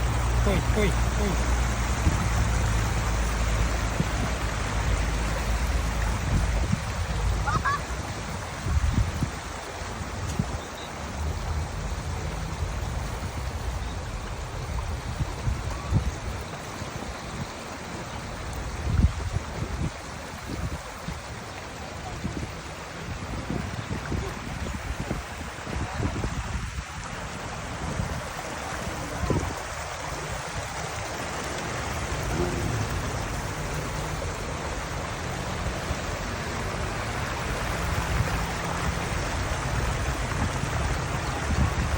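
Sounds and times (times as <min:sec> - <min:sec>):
waterfall splashing: 0:00.0 - 0:41.9.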